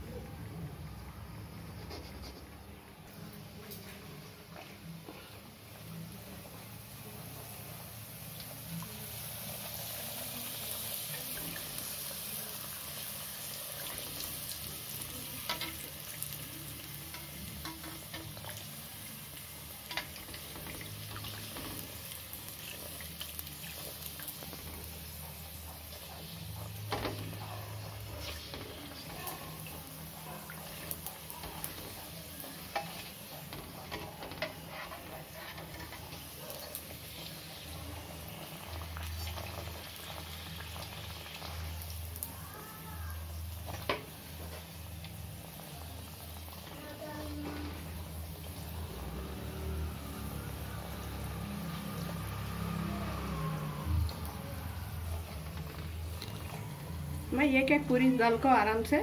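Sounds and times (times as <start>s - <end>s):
oil sizzling with pops: 0.8s - 59.0s.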